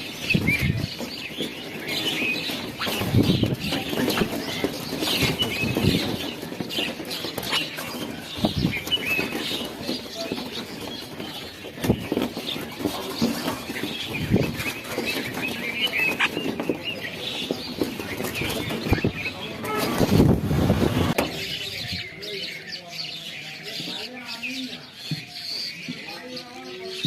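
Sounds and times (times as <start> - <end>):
flock of birds chirping: 0.0 - 27.0.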